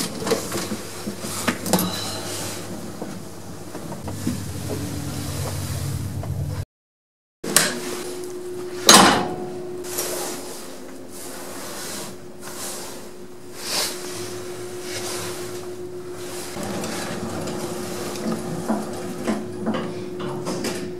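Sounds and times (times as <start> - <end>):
steady machinery hum: 0.0 - 6.6, 7.4 - 20.9.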